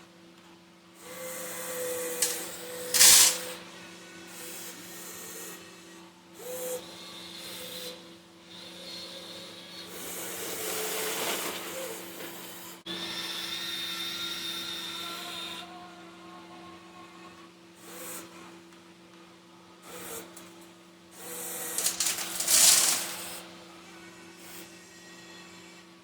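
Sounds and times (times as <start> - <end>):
small electric motors whining: 1.0 - 18.4, 21.1 - 25.9.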